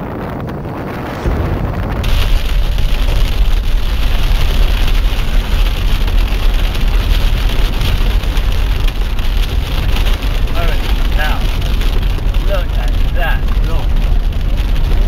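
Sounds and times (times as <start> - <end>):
car engine and tyres rumbling: 0.0 - 15.0
rain hitting windshield: 1.6 - 15.0.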